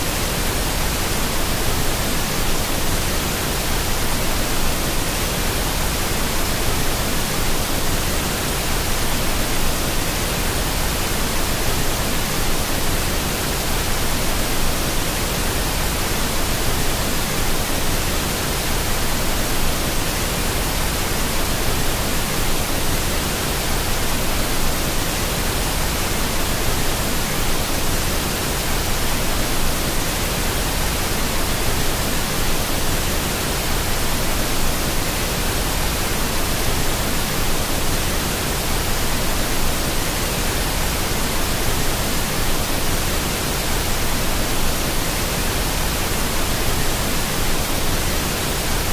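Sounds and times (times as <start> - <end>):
waterfall rushing into pool: 0.0 - 48.9.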